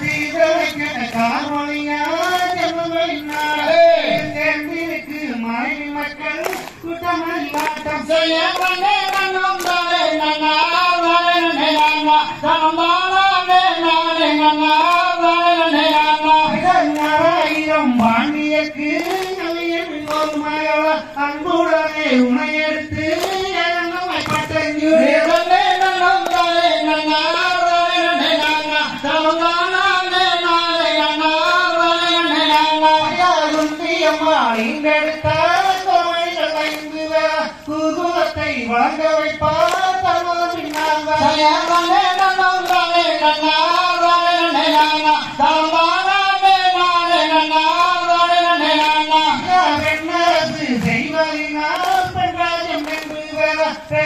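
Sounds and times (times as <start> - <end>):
hand claps: 0.0 - 54.0
person singing folk song: 0.0 - 54.0.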